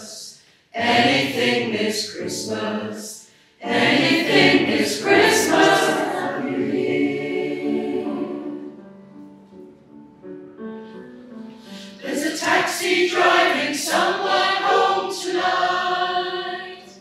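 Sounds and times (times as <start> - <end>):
choir singing: 0.0 - 9.0, 11.8 - 17.0.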